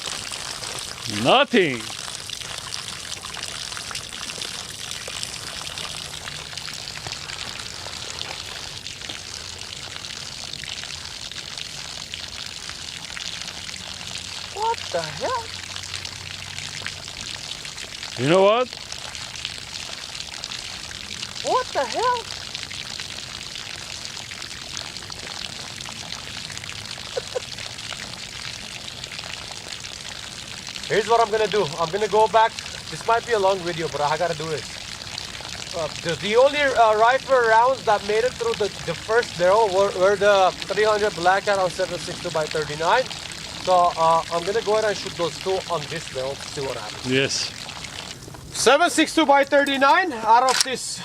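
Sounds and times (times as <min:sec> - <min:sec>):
water pouring from barrel holes: 0:00.0 - 0:51.0.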